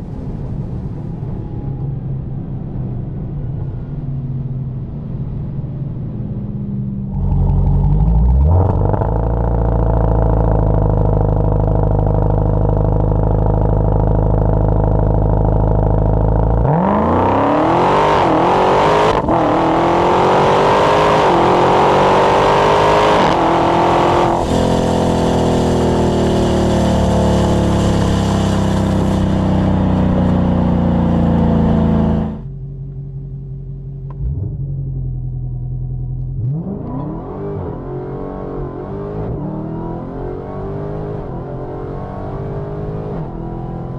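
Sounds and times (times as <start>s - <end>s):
supercharger whining: 6.2s - 43.6s
car engine revving: 7.0s - 32.7s, 33.9s - 43.9s.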